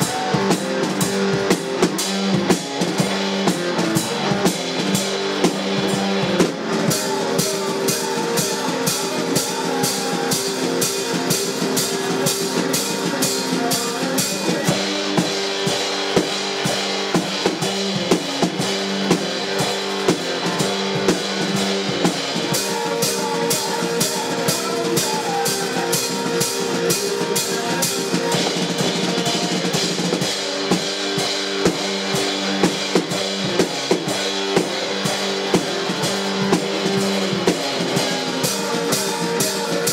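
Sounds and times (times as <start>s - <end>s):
drum kit beat: 0.0s - 39.9s
electric guitar riff: 0.0s - 39.9s.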